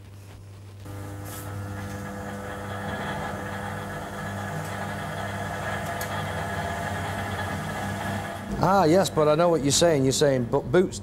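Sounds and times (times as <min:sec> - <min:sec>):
testing machine mechanical hum: 0:00.8 - 0:11.0.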